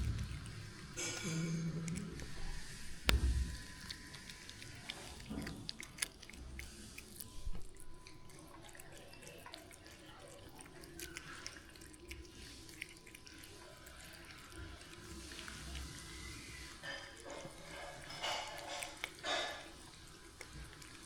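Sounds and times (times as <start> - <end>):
water dripping: 0.0 - 21.0.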